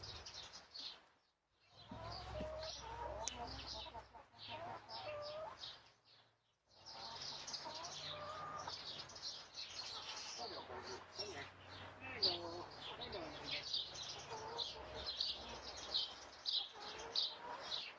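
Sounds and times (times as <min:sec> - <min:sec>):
hens clucking: 0:01.8 - 0:05.8, 0:06.8 - 0:17.9.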